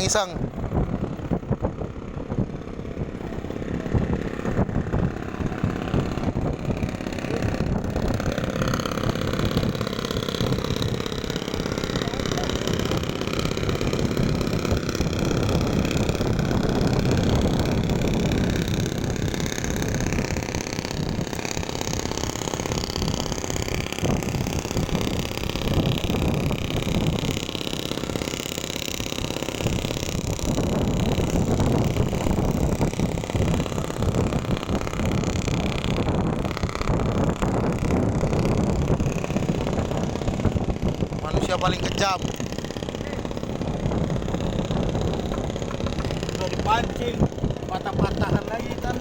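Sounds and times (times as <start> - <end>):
motor engine running: 0.0 - 49.0.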